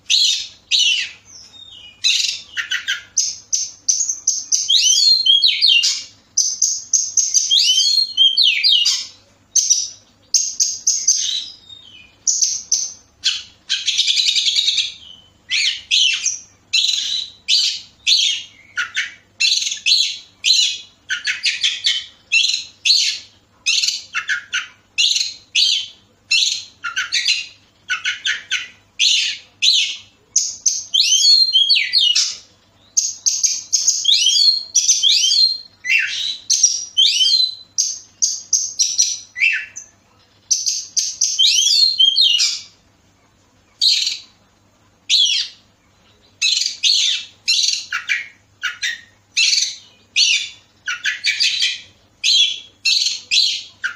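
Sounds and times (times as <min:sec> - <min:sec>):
bird singing: 0:00.0 - 0:53.9.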